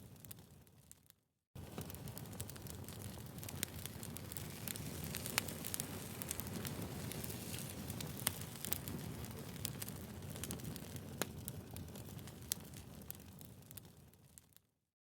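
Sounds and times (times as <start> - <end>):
firewood crackling and popping: 0.0 - 14.6
fire flames rustling: 1.6 - 14.5.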